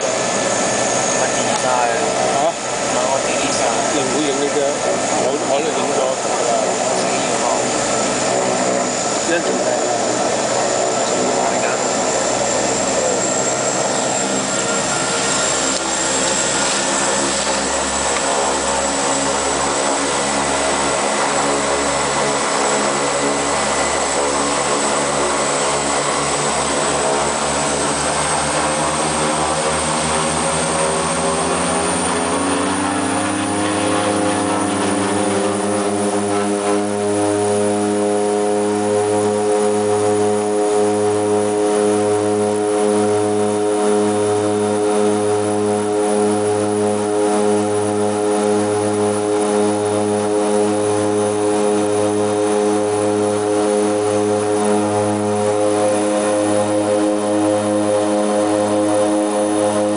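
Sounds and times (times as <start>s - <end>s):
propeller drone: 0.0s - 59.9s
turbine whine: 0.0s - 59.9s.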